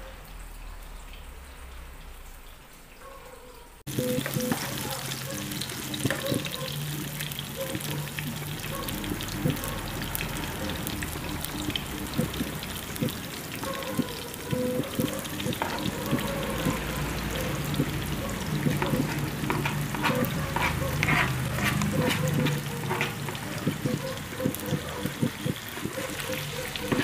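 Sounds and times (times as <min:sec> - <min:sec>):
oil crackling: 0:03.8 - 0:27.0
food sizzling in oil: 0:03.9 - 0:27.0
spatula scraping pan: 0:03.9 - 0:27.0.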